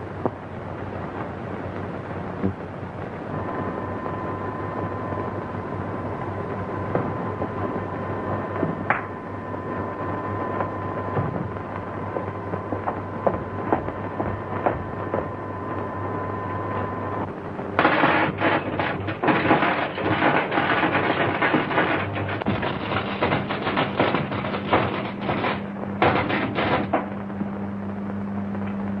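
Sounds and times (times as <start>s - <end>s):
electrical machine hum: 0.0s - 29.0s
thin high whine: 0.0s - 29.0s
electric sparks crackling: 4.7s - 28.9s.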